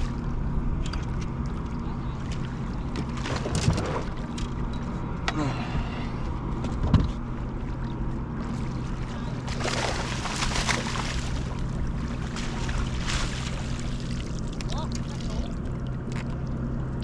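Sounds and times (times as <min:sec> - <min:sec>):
water splashing beside boat: 0:00.0 - 0:04.6, 0:07.3 - 0:17.0
low boat hum: 0:00.0 - 0:17.0.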